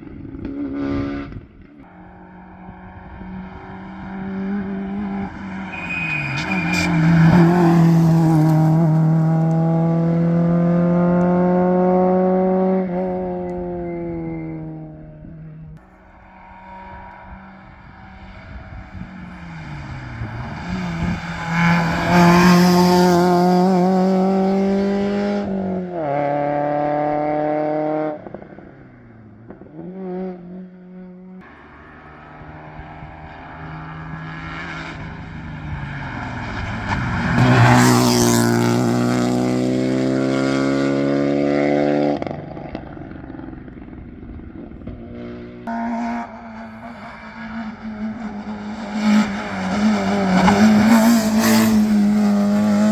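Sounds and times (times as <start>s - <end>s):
rally car engine at full throttle: 0.0s - 52.9s.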